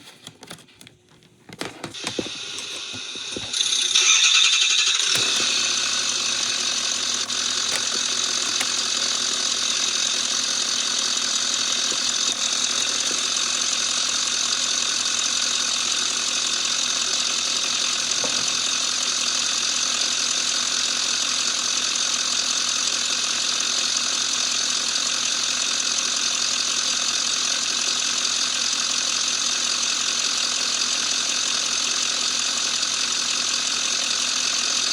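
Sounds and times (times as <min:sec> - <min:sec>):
engine cranking and idling: 0:01.6 - 0:34.9.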